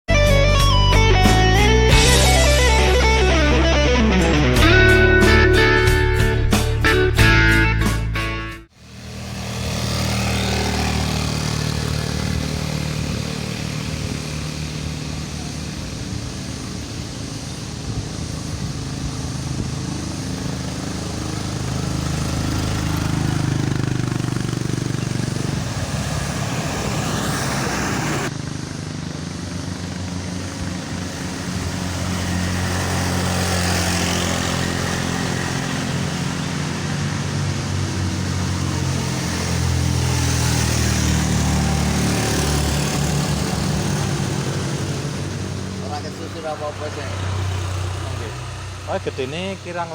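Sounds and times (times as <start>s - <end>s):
vehicle engines pulling uphill: 0.0s - 8.0s, 8.6s - 49.9s.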